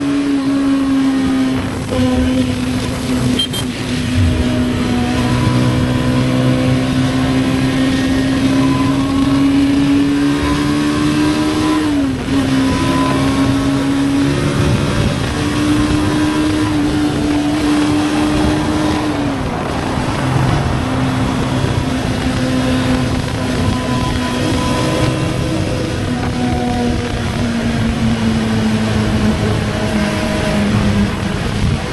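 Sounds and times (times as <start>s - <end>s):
motorcycle engine accelerating: 0.0s - 31.9s
wind rush: 0.0s - 31.9s.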